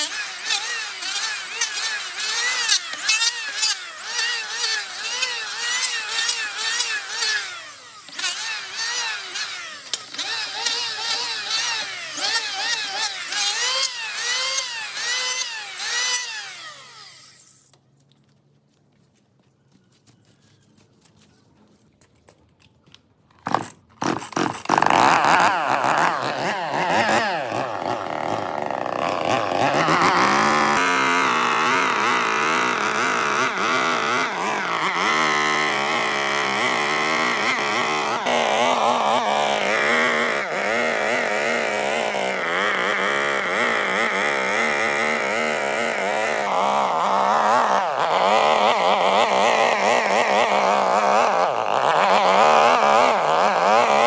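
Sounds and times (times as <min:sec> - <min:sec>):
engine starting and running: 0:00.0 - 0:17.8, 0:23.4 - 0:54.0.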